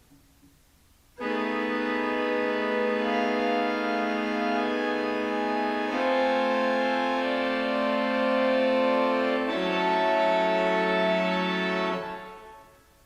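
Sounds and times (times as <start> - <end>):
organ playing held chords: 1.2 - 13.0.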